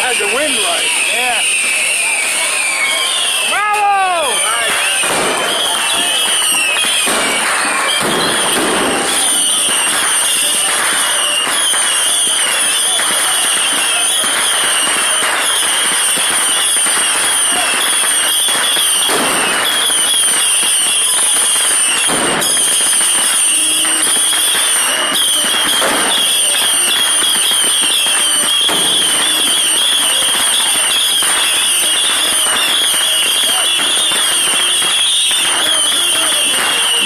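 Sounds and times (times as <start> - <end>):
fireworks crackling and popping: 0.0 - 37.0
heavy fireworks bangs: 0.0 - 37.0.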